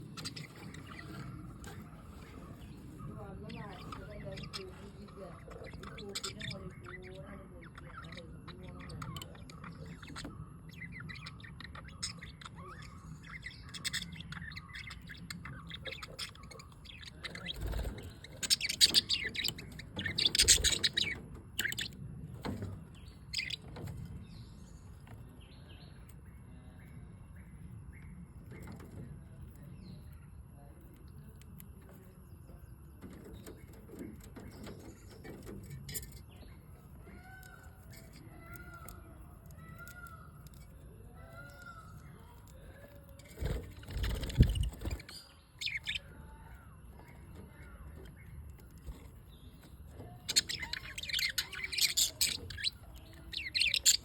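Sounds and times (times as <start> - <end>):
lovebirds chattering and squawking: 0.0 - 54.0.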